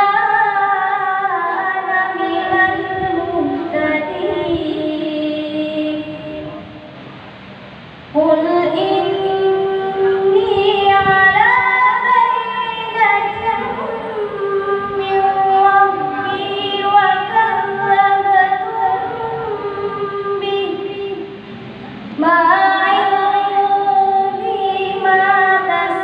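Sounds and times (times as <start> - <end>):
woman chanting through loudspeakers: 0.0 - 6.9, 8.1 - 26.0.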